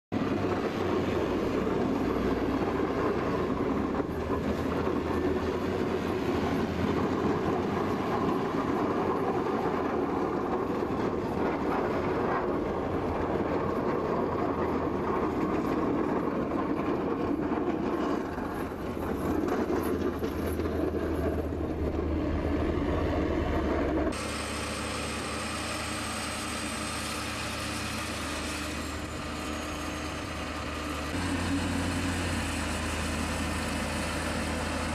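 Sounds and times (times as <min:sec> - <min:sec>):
snowplow engine under load: 0:00.2 - 0:34.9
tractor engine humming: 0:00.2 - 0:34.9.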